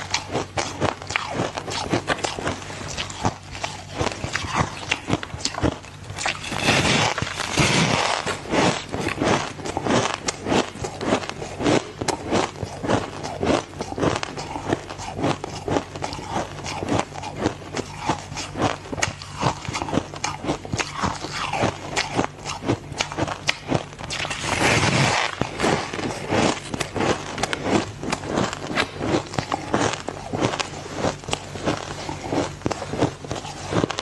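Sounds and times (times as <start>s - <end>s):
ice crunching while chewed: 0.0s - 34.0s.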